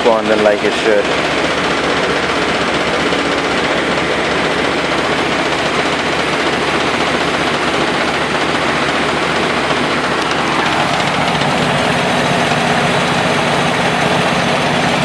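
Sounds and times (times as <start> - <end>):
car engine misfiring: 0.0 - 15.0.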